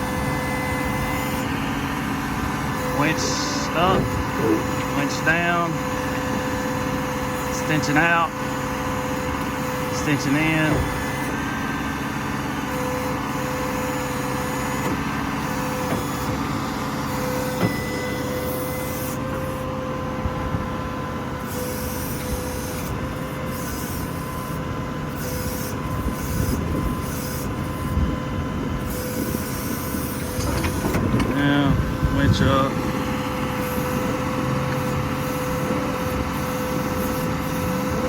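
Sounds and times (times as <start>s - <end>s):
diesel engine idling: 0.0s - 25.2s, 25.8s - 38.0s
hydraulic whine: 0.0s - 38.0s.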